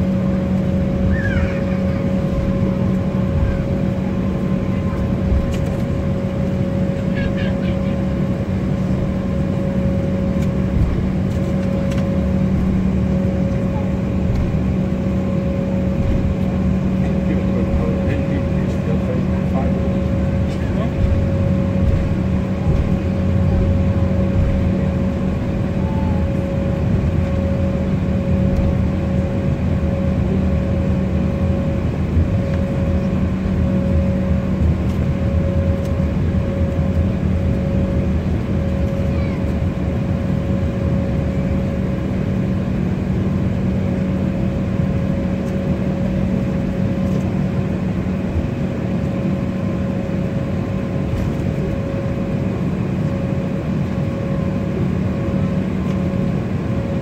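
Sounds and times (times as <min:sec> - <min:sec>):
jet engines rumbling: 0:00.0 - 0:57.0
steady mid-pitched engine tone: 0:00.0 - 0:57.0.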